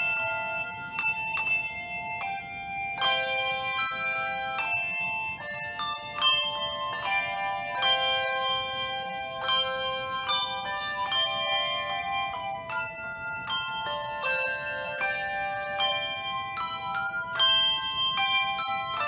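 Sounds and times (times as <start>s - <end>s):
handbell choir playing: 0.0s - 19.0s.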